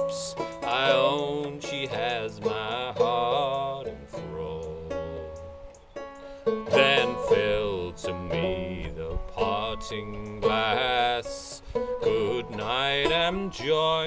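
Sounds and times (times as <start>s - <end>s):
man singing: 0.0s - 5.5s, 6.6s - 14.0s
banjo playing: 0.0s - 14.0s.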